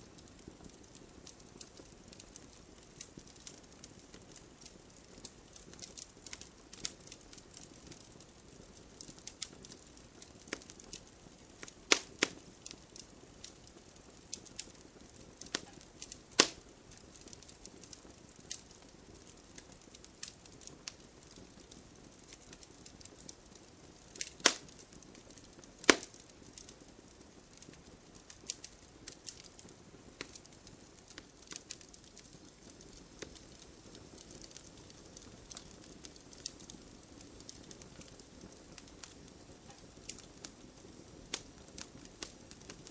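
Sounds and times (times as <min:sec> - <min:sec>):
burning logs popping: 0:00.0 - 0:42.9
wood fire crackling: 0:00.0 - 0:42.9.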